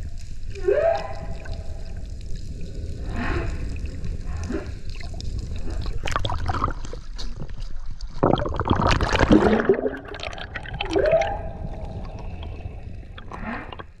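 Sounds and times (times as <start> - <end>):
underwater bubbling and crackling: 0.0 - 14.0.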